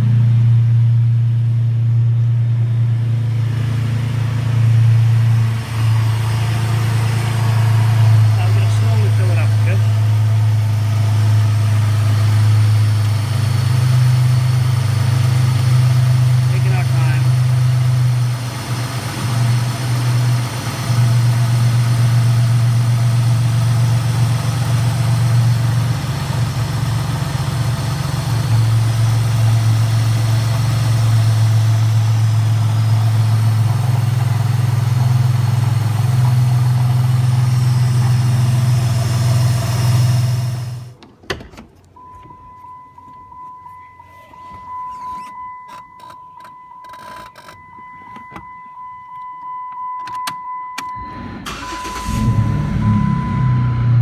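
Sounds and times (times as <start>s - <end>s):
car engine running: 0.0s - 41.0s, 51.4s - 54.0s.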